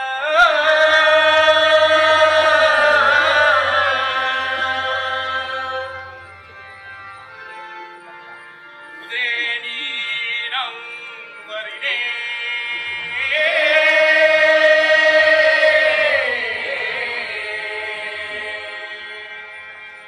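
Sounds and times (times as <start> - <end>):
solo singing with ornamented notes: 0.0 - 20.0
steady sustained drone: 0.0 - 20.0.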